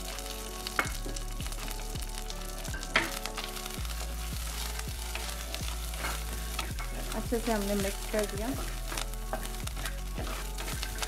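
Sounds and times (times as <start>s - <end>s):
light background music: 0.0s - 11.0s
peanuts sizzling in hot oil: 0.0s - 11.0s
wooden spatula stirring: 0.9s - 11.0s.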